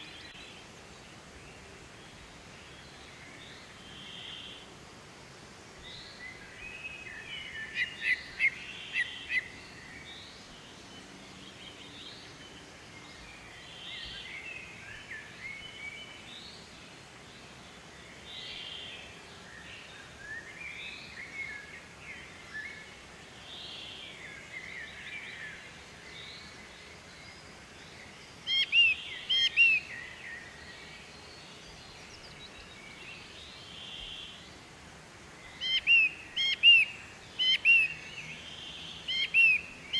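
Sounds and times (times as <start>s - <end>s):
faint steady hiss: 0.0s - 39.9s
birds chirping: 5.8s - 16.6s, 17.4s - 34.7s, 35.3s - 39.9s.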